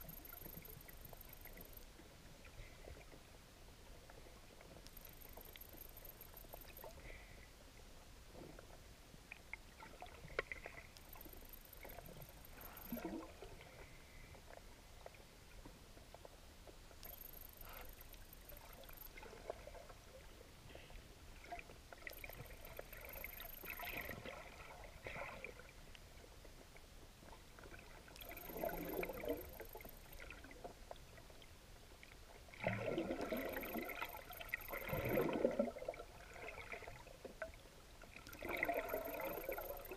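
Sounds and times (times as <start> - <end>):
faint underwater noise: 0.0 - 39.9.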